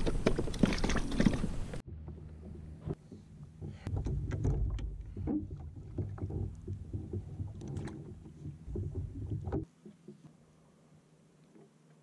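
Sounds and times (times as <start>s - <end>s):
water and wind rumble: 0.0s - 12.0s.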